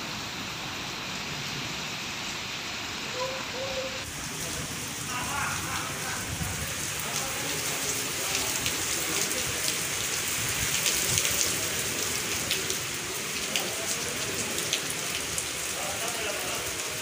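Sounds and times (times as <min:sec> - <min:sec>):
heavy rain on paving: 0:00.0 - 0:17.0.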